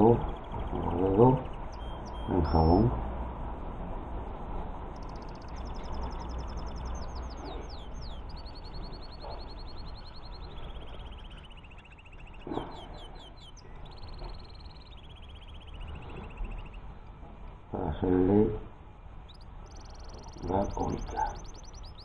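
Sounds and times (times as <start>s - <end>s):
songbird trilling song: 0.0s - 3.0s, 4.8s - 22.0s.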